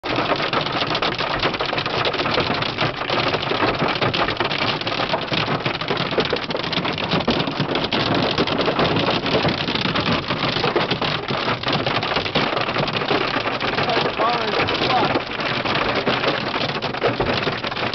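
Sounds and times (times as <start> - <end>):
hail and rain on car roof: 0.0 - 17.9.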